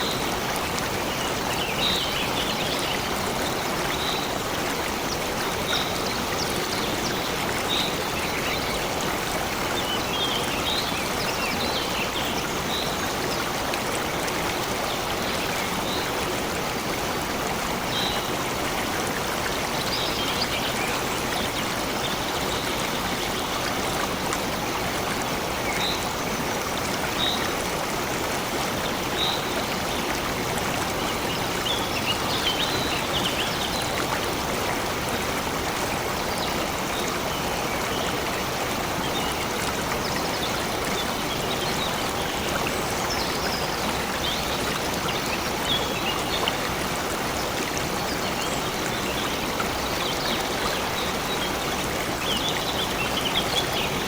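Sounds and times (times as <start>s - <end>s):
flowing stream: 0.0s - 54.0s.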